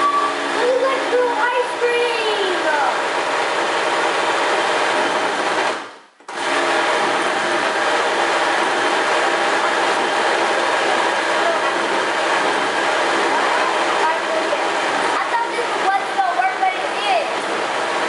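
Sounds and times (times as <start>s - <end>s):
blender motor running: 0.0s - 18.0s.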